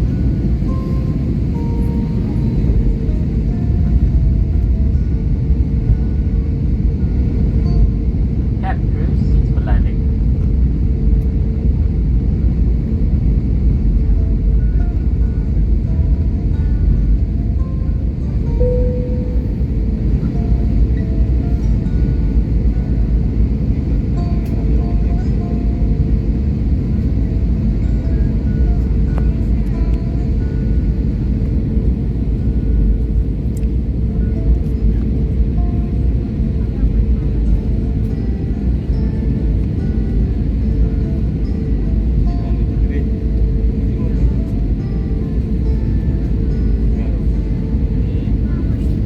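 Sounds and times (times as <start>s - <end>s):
aircraft cabin rumble: 0.0s - 49.0s
faint engine hum: 0.0s - 49.0s.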